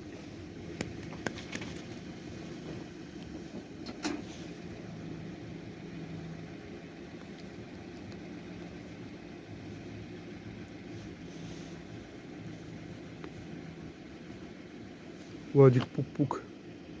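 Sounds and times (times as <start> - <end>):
motor vehicle humming: 0.0 - 15.5.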